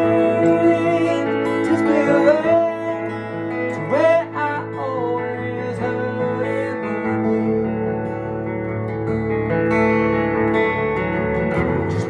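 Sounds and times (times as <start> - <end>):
fingerpicked acoustic guitar: 0.0 - 12.0.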